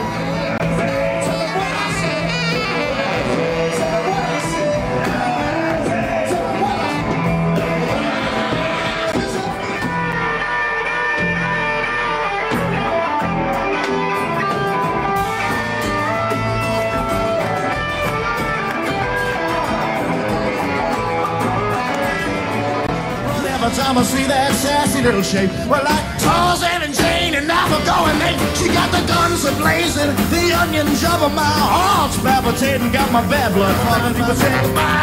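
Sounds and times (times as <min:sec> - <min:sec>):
electric guitar: 0:00.0 - 0:35.0
rock and roll band music: 0:00.0 - 0:35.0.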